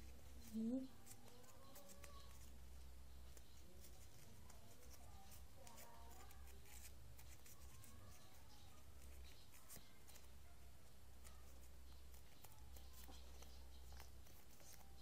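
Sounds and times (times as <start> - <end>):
paper crinkling while folded: 0.0 - 15.0.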